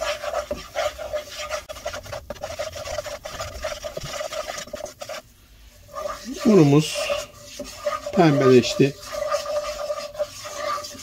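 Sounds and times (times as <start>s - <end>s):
wooden spoon scraping a pot: 0.0s - 11.0s.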